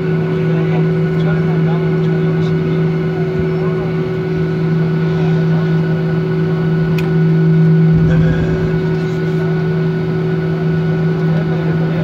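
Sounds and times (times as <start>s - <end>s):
jet engines idling drone: 0.0s - 12.0s.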